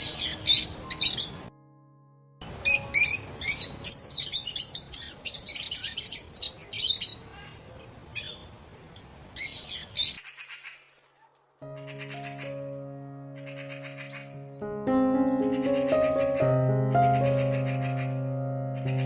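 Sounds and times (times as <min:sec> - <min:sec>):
birds chirping: 0:00.0 - 0:01.5, 0:02.4 - 0:10.9, 0:11.6 - 0:19.0.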